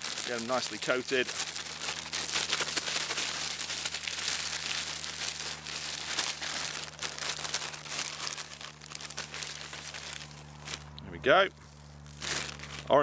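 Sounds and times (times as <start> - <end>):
plastic bag crinkling: 0.0 - 11.0, 11.6 - 13.0.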